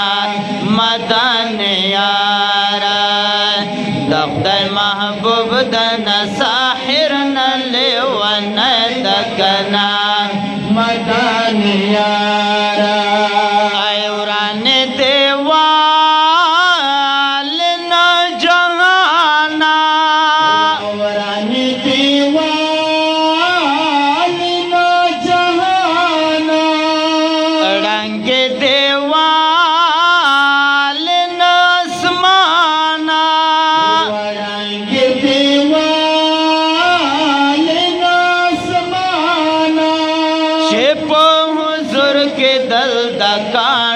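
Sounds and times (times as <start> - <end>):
men singing unaccompanied: 0.0 - 43.9.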